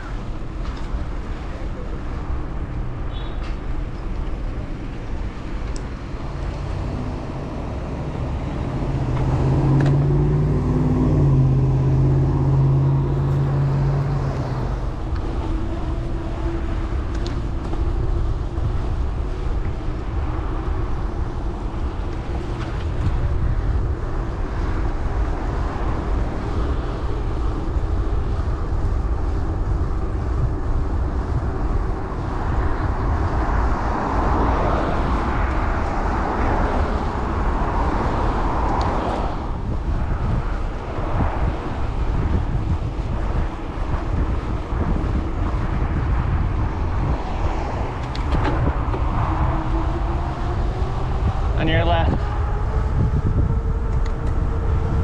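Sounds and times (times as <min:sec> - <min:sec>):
vehicle engine hum: 0:00.0 - 0:55.0
wind rushing over microphone: 0:00.0 - 0:55.0.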